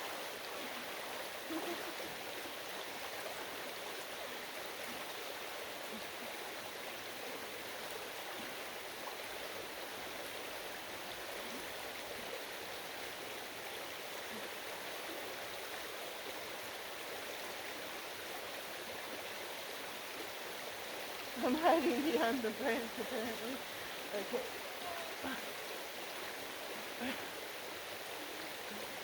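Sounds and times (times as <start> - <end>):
stream water flowing: 0.0 - 29.0.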